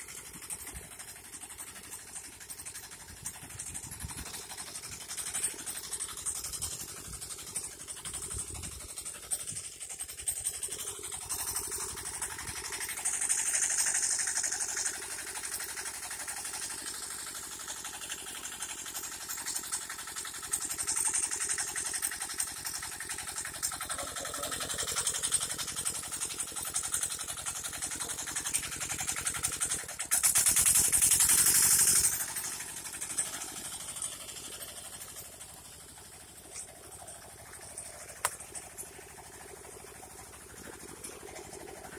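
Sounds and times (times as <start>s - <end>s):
tractor engine running under load: 0.0s - 41.9s.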